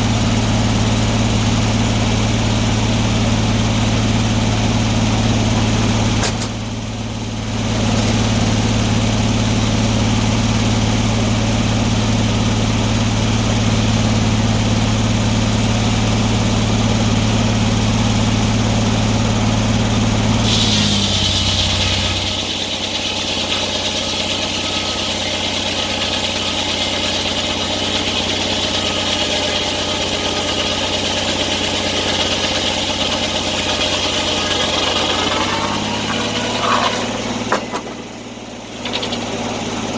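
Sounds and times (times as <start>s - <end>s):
sawmill engine hum: 0.0s - 39.9s.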